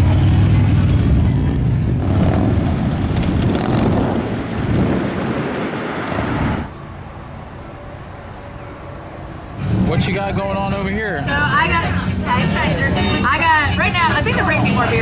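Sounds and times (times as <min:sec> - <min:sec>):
loud engine rumble: 0:00.0 - 0:15.0.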